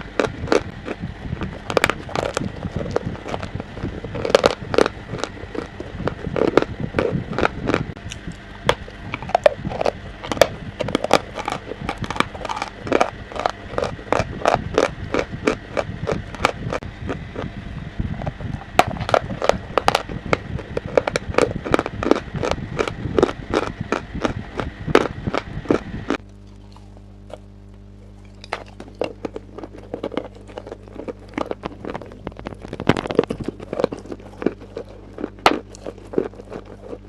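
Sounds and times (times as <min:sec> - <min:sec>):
chewing crunchy chalk: 0:00.0 - 0:37.0.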